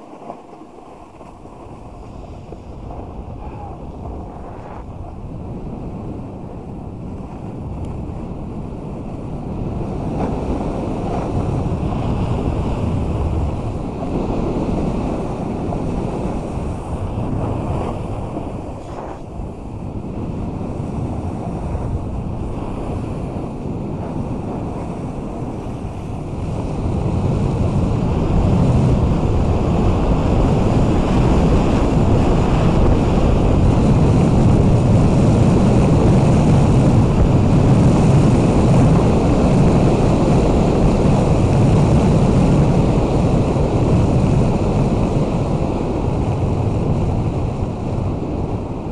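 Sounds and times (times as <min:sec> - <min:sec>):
snowboard sliding on snow: 0:00.0 - 0:48.9
wind buffeting microphone: 0:00.0 - 0:48.9.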